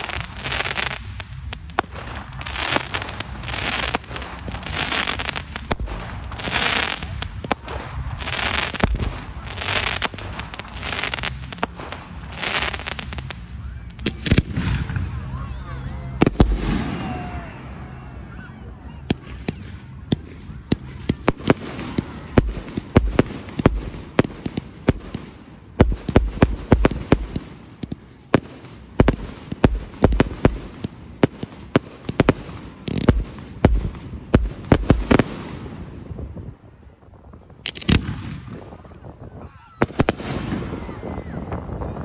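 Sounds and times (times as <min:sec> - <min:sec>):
fireworks bangs: 0:00.0 - 0:15.3, 0:19.1 - 0:36.2, 0:37.4 - 0:39.2, 0:39.8 - 0:42.0.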